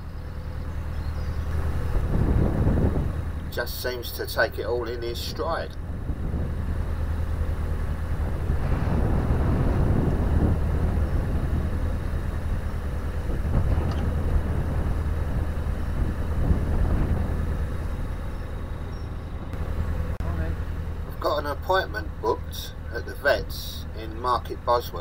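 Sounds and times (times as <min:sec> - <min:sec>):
wind on microphone: 0:00.0 - 0:20.5
diesel engine humming: 0:00.0 - 0:25.0.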